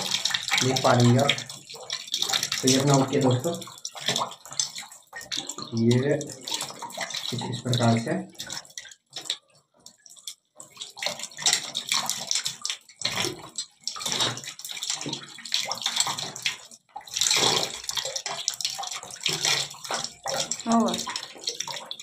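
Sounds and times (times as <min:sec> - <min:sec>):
tap water splashing into bucket: 0:00.0 - 0:22.0.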